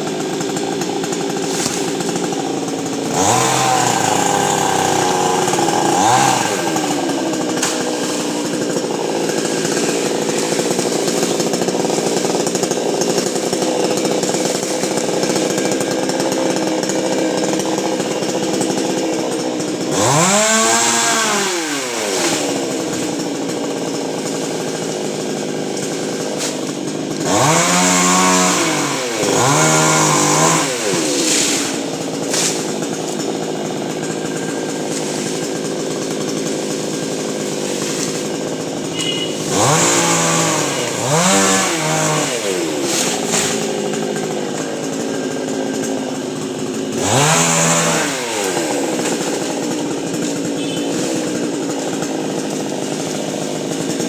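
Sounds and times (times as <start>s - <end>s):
chainsaw engine running: 0.0s - 54.0s.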